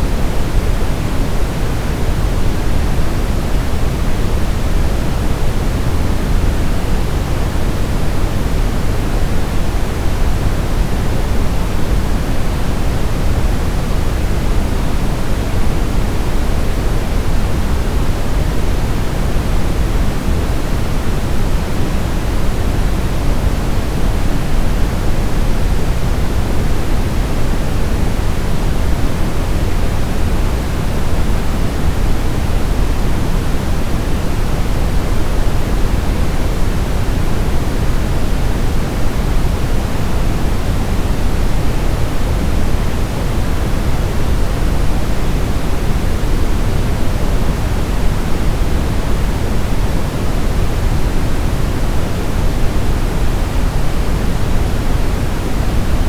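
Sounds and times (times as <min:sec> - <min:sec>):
white noise: 0:00.0 - 0:56.0.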